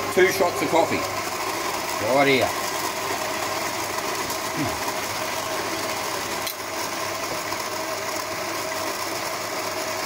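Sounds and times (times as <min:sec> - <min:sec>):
coffee grinder running: 0:00.0 - 0:10.0.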